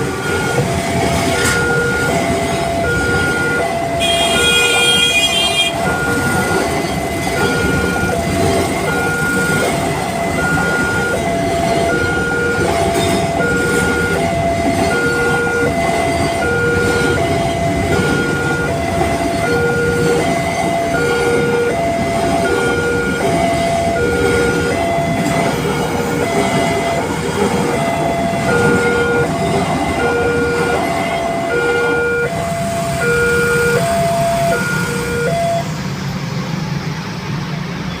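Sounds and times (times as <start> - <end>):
level crossing two-note alarm: 0.0 - 35.7
passing train rumble: 0.0 - 38.0.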